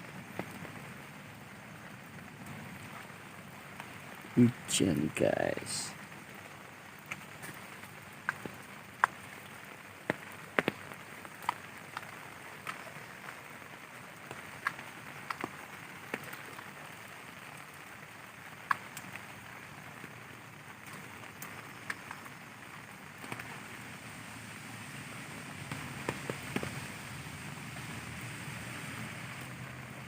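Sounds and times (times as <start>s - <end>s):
rain hissing on tent: 0.0s - 30.0s
raindrops tapping fabric: 0.0s - 30.0s.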